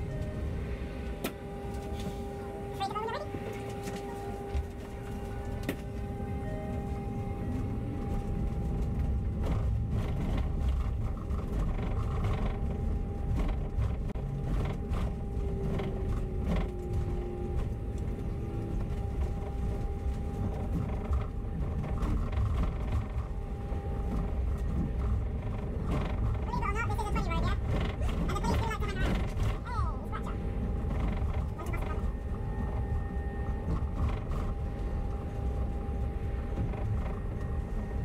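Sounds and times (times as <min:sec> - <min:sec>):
bus engine and road rumble: 0:00.0 - 0:38.0
creaks and rattles: 0:00.0 - 0:38.0
steady whine: 0:00.0 - 0:38.0.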